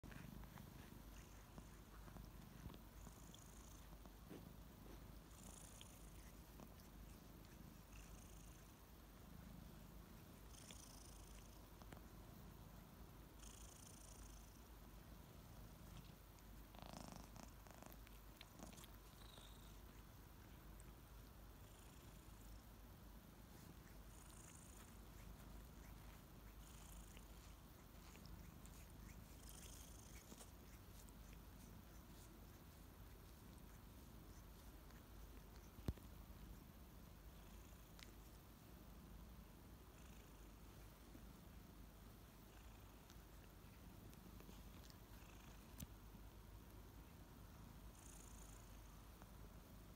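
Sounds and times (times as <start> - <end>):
soft rustling: 0.0 - 39.1, 40.1 - 47.6
kittens purring: 0.0 - 49.9.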